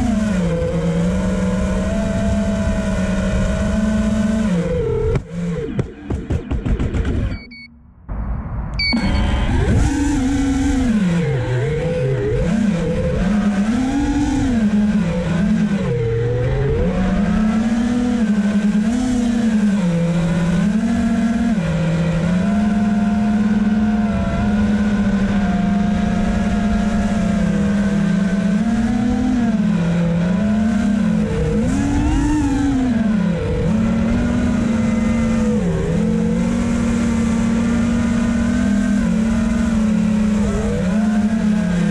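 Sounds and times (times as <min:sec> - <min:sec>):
drone motors whining: 0:00.0 - 0:41.9.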